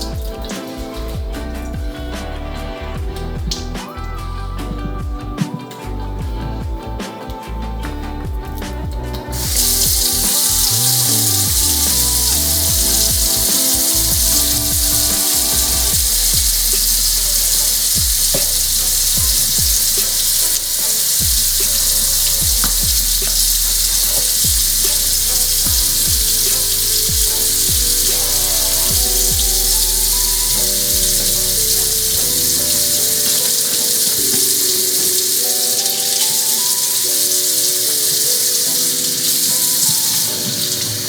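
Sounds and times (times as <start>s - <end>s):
background music with bass beat: 0.0s - 41.0s.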